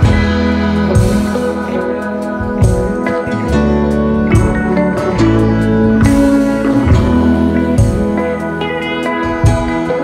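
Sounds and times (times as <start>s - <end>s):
background instrumental music: 0.0s - 10.0s.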